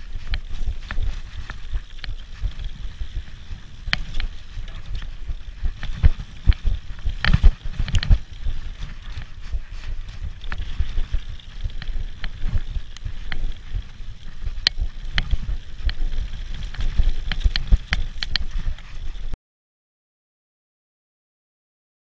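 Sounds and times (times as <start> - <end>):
bike clicks and rattles: 0.0 - 19.4.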